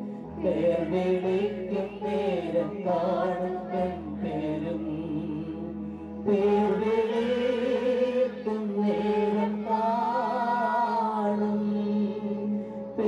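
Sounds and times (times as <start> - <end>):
singer on a microphone: 0.0 - 13.0.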